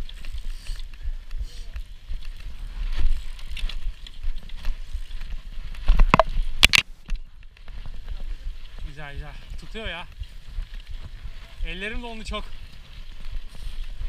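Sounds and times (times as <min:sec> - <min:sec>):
bike tyres rumbling on trail: 0:00.0 - 0:14.0.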